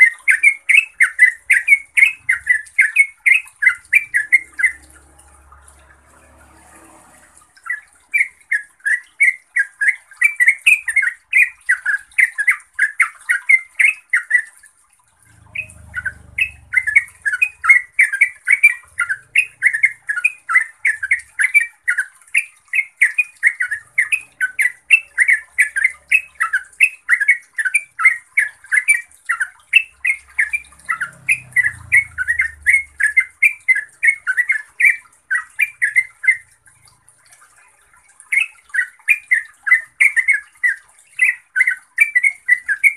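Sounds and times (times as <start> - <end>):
bird bubbling chattering song: 0.0 - 42.9.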